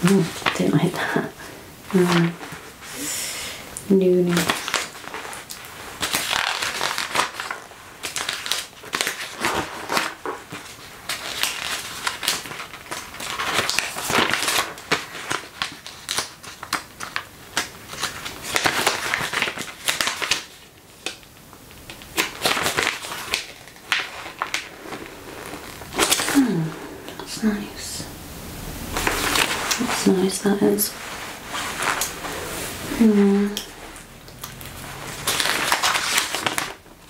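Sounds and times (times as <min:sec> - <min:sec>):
catalogue pages turning: 0:00.0 - 0:01.0, 0:04.1 - 0:26.8, 0:28.8 - 0:37.0.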